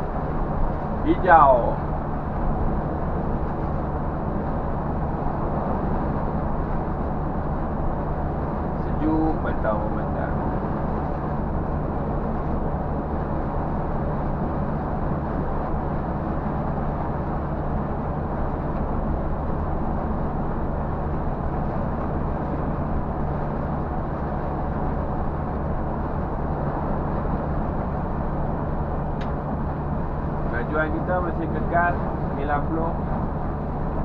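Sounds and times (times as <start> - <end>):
diesel engine droning: 0.0 - 34.0
tyre road noise: 0.0 - 34.0.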